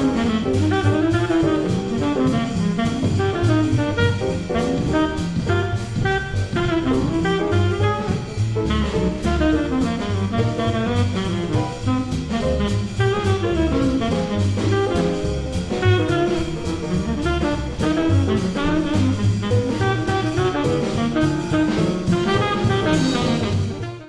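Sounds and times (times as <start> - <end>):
drum kit: 0.0 - 24.0
piano: 0.0 - 24.0
pizzicato upright bass: 0.0 - 24.0
tenor saxophone: 0.0 - 24.0
walking double bass: 0.0 - 24.0.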